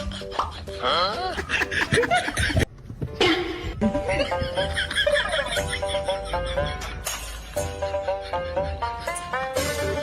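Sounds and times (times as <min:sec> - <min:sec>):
light bouncy melody over beat: 0:00.0 - 0:10.0.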